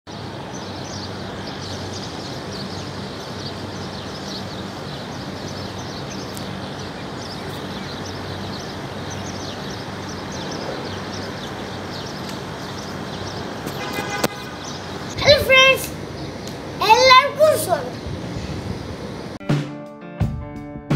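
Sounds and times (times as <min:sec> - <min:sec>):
traffic hum: 0:00.1 - 0:19.4
bird chirps: 0:00.5 - 0:18.0.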